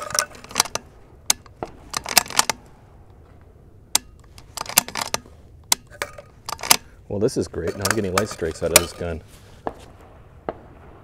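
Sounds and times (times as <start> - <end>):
rifle metallic clicks: 0.0 - 7.0, 7.6 - 9.8.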